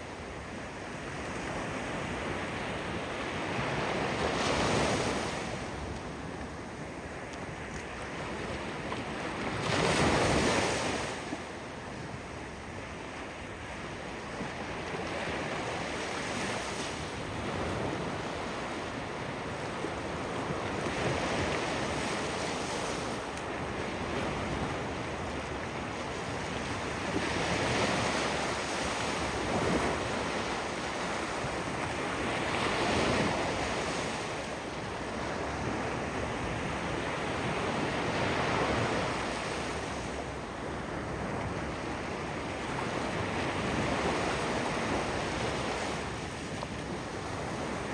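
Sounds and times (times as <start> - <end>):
ocean waves washing on shore: 0.0 - 47.9.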